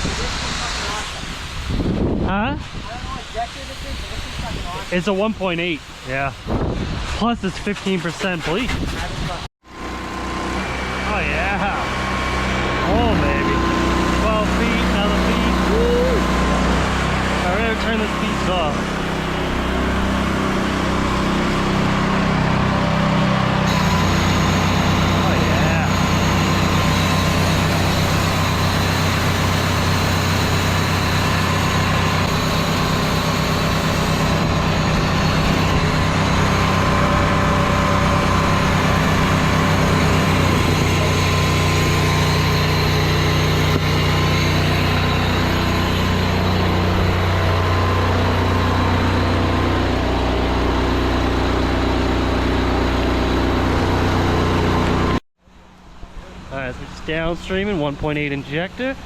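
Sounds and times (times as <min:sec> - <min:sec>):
pressure washer engine and pump: 0:00.0 - 0:59.0.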